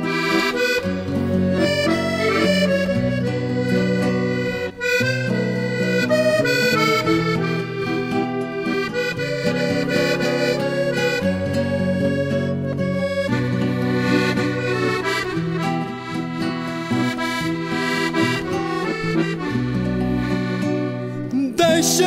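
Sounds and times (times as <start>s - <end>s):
accordion playing melody: 0.0s - 22.0s.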